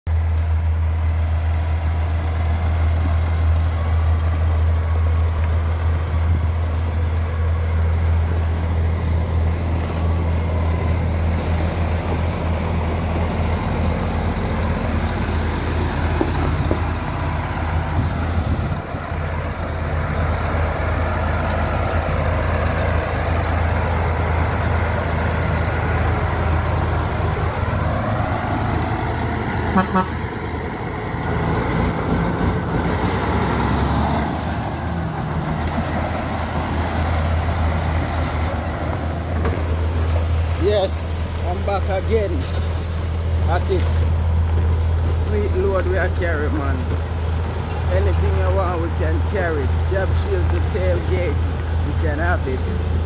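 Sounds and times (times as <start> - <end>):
diesel truck engine idling: 0.1 - 53.0.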